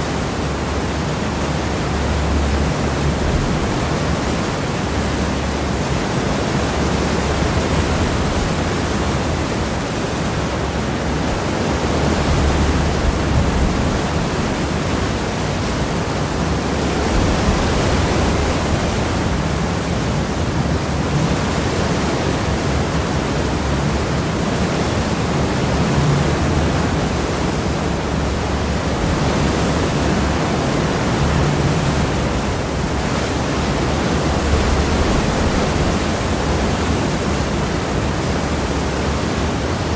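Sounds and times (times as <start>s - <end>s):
water rushing behind ship: 0.0s - 39.9s.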